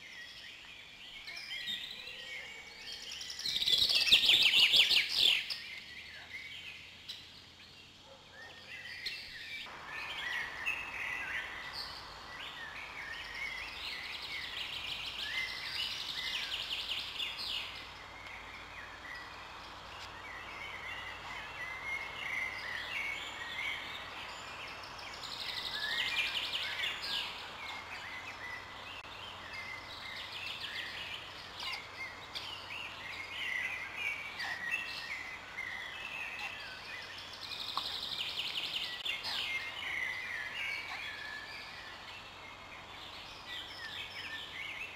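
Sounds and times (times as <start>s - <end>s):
small birds chirping and trilling: 0.0s - 44.9s.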